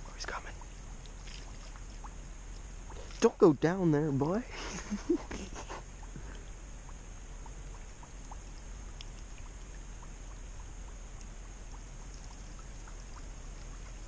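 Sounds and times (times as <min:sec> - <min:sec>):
small ticks: 0:00.0 - 0:03.3, 0:05.7 - 0:14.0
low rumble and hiss: 0:00.0 - 0:14.0
water trickling: 0:00.0 - 0:14.0.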